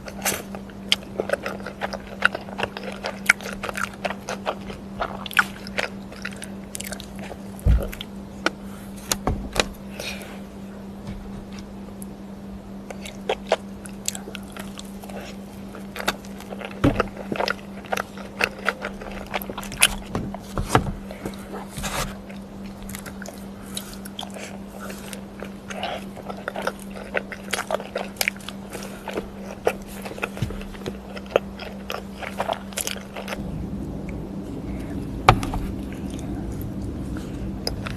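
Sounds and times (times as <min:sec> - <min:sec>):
person chewing crunchy food: 0:00.0 - 0:12.2, 0:12.8 - 0:37.9
steady low hum: 0:00.0 - 0:37.9.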